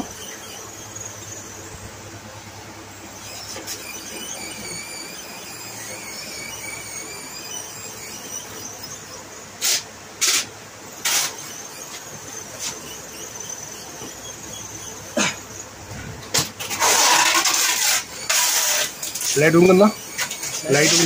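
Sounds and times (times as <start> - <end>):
thin whistling hiss: 3.0 - 15.6, 16.8 - 21.0.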